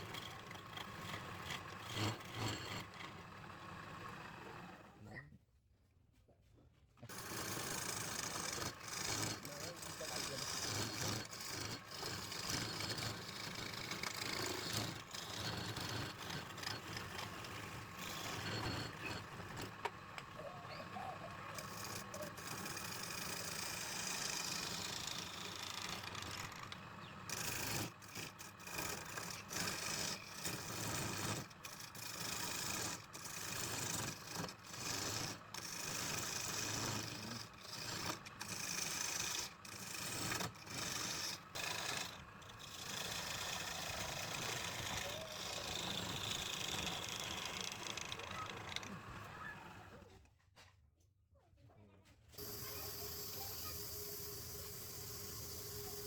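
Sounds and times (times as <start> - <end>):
tool cutting spinning wood: 0.0 - 5.0, 7.1 - 50.1, 52.4 - 56.0
wood lathe running: 0.0 - 5.0, 7.1 - 50.1, 52.4 - 56.0.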